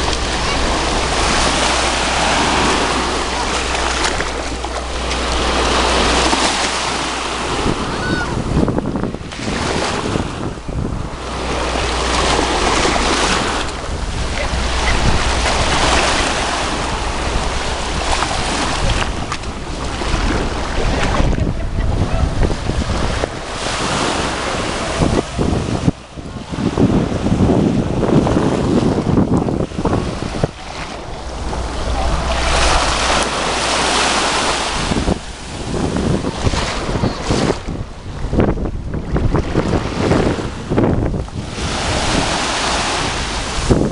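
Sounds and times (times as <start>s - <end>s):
small waves lapping: 0.0s - 27.3s, 27.9s - 43.9s
wind buffeting microphone: 0.0s - 43.9s.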